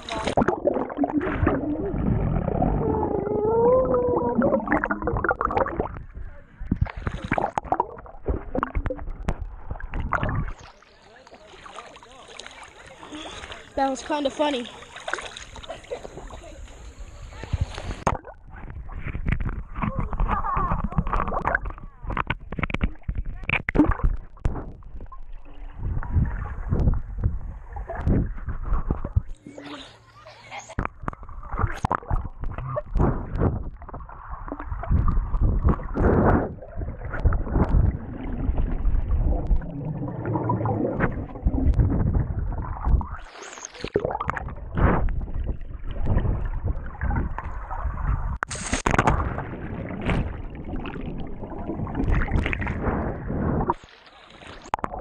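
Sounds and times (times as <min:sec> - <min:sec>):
rushes of bubbles: 0:00.0 - 0:10.9, 0:17.7 - 0:29.6, 0:30.8 - 0:55.0
underwater churning and gurgling: 0:00.0 - 0:29.7, 0:30.8 - 0:55.0.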